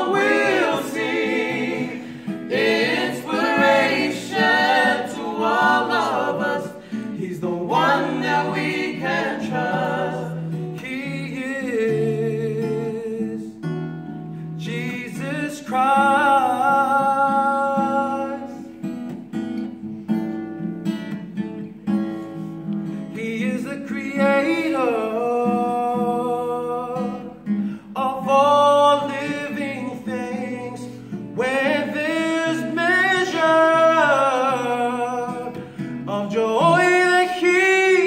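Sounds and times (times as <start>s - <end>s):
trio singing gospel song: 0.0s - 13.4s, 14.6s - 18.8s, 23.2s - 38.0s
strummed acoustic guitar: 0.0s - 38.0s.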